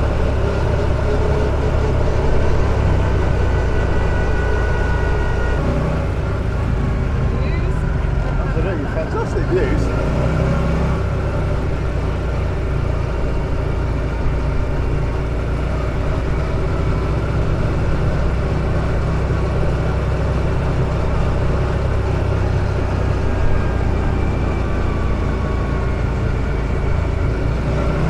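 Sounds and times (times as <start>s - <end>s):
buggy engine running: 0.0s - 28.0s
road noise: 0.0s - 28.0s.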